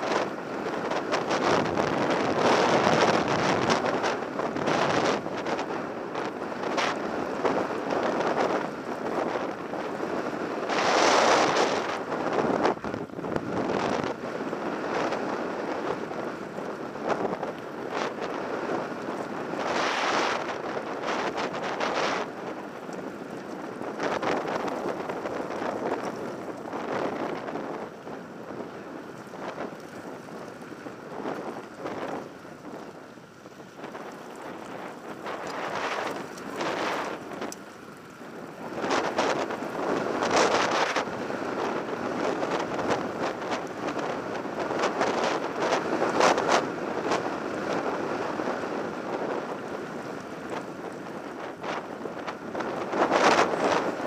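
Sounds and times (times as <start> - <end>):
wind rushing over microphone: 0.0 - 54.0
bike tyres crunching on gravel: 0.1 - 48.7.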